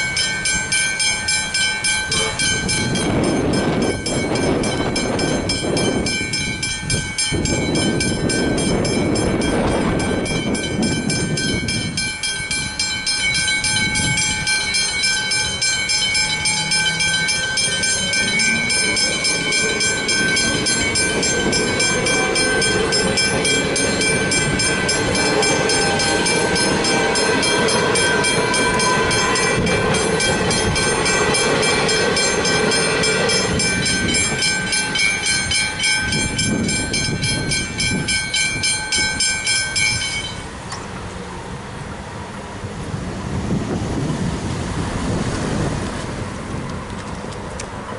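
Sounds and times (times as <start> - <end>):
level-crossing bells ringing: 0.0 - 40.5
electric train rumbling past: 0.0 - 47.9.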